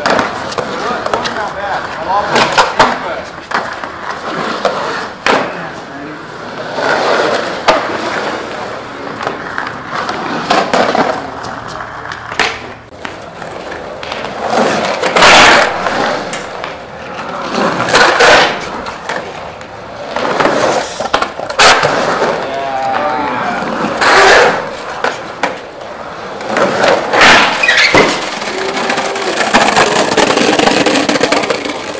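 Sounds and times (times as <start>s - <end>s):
skateboard sharp clacks: 0.0s - 5.8s, 6.6s - 31.9s
skateboard wheels rolling on concrete: 0.0s - 31.9s.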